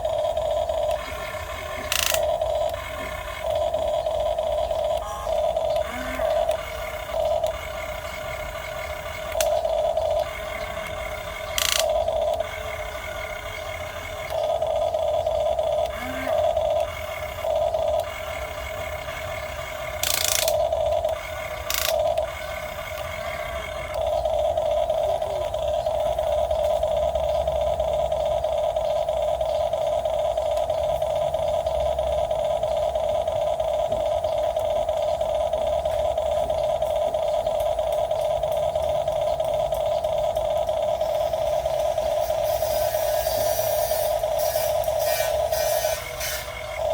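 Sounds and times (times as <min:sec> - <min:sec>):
electric gear motors whining: 0:00.0 - 0:46.9.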